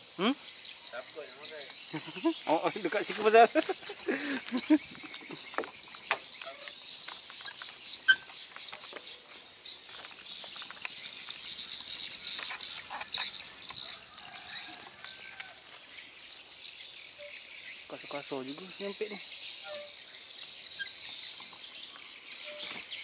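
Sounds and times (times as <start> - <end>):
high-pitched insect chirring: 0.0 - 23.0.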